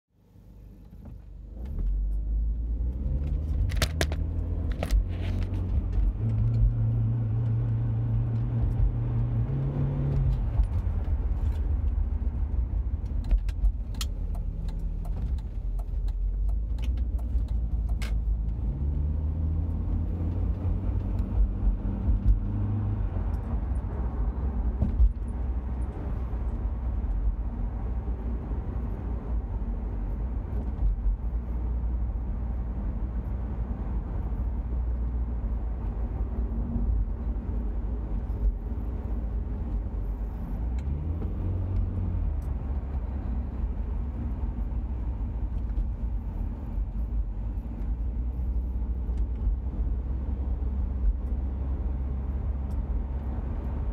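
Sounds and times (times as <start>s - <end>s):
car engine accelerating: 1.4s - 53.9s.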